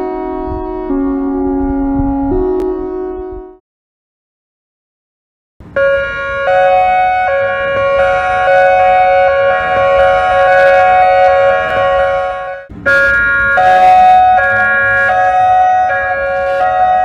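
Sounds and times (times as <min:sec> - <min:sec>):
two-tone warning siren: 0:00.0 - 0:03.6, 0:05.6 - 0:17.0.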